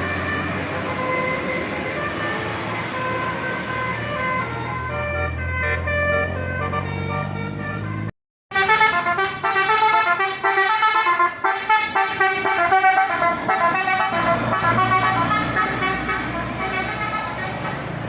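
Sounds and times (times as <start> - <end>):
musical vehicle horn: 1.0 - 17.9.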